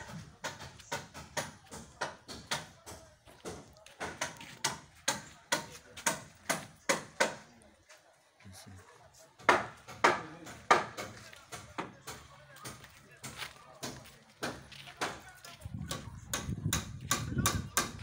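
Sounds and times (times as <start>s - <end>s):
tool striking wood: 0.0s - 7.4s, 9.4s - 15.2s, 15.8s - 18.0s.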